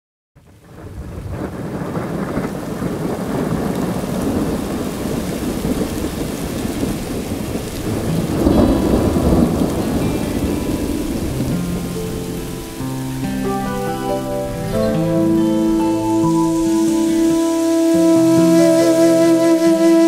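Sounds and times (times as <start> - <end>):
heavy rain: 0.4 - 20.0
thunder rumbling: 0.4 - 20.0.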